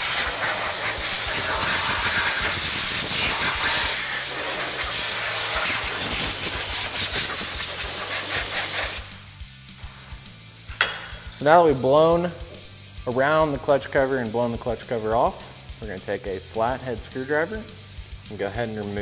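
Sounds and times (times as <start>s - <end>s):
compressed air gun hissing: 0.0s - 11.3s, 14.0s - 16.1s, 17.1s - 19.0s.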